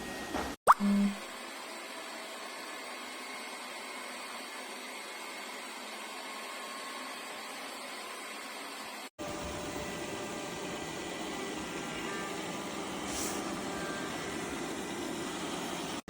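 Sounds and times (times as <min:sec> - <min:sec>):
robot vacuum cleaner whirring: 0:01.4 - 0:16.0.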